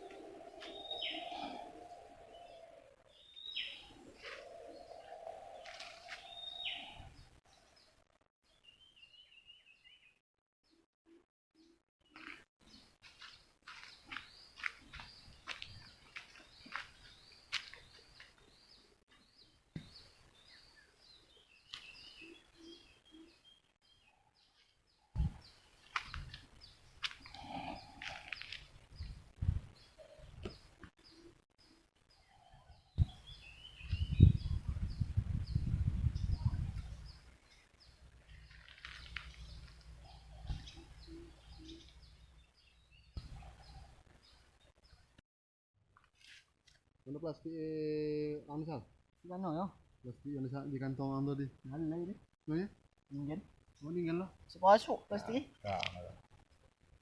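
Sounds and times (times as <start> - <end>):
birds chirping: 0.0 - 45.1, 53.1 - 56.4.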